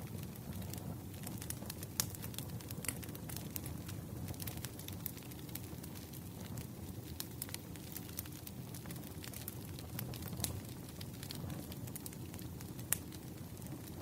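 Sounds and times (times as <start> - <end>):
campfire flames rumbling: 0.0 - 14.0
fire crackling and popping: 0.0 - 14.0.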